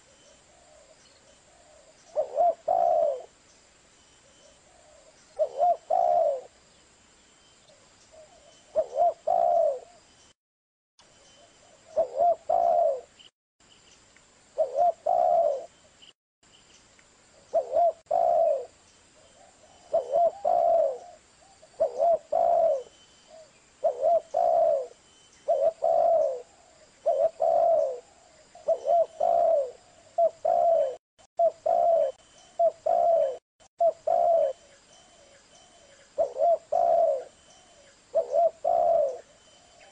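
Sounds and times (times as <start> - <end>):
dove cooing: 0.0 - 3.4, 4.6 - 6.6, 8.1 - 10.0, 11.6 - 13.1, 14.6 - 15.7, 17.5 - 39.9.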